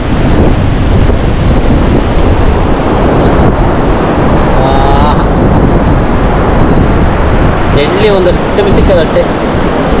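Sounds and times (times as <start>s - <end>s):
sea surf breaking on a beach: 0.0s - 10.0s
wind buffeting the microphone: 0.0s - 10.0s.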